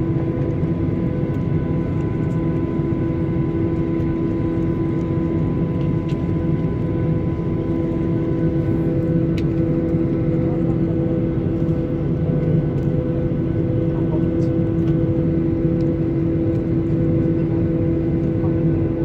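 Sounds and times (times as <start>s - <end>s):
airplane cabin engine hum: 0.0s - 19.0s.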